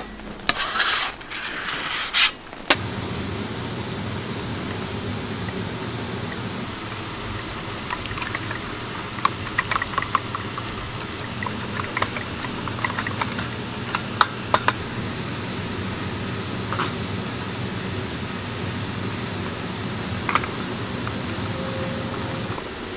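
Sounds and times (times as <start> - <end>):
steady low hum: 2.8 - 22.9.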